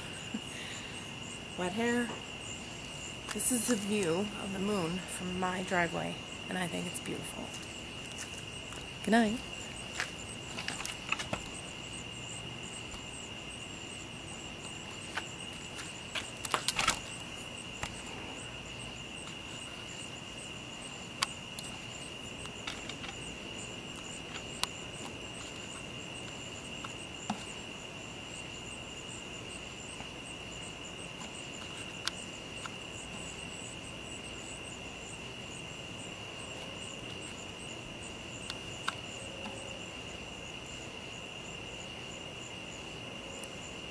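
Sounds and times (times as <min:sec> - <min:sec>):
crickets and insects trilling: 0:00.0 - 0:43.9.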